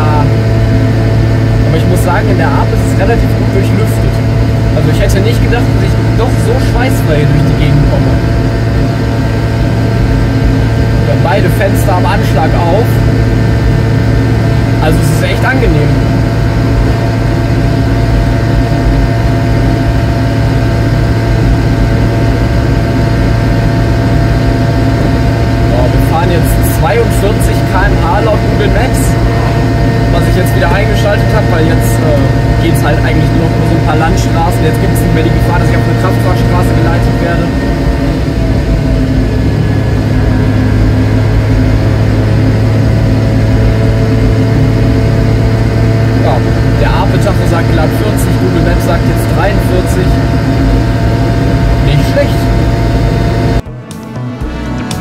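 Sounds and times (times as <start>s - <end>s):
road noise: 0.0s - 53.6s
small two-stroke engine droning: 0.0s - 53.7s.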